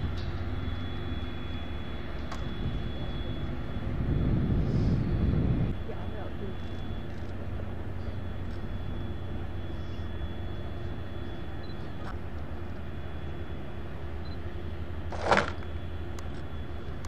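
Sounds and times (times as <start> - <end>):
boat engines rumbling: 0.0 - 17.0.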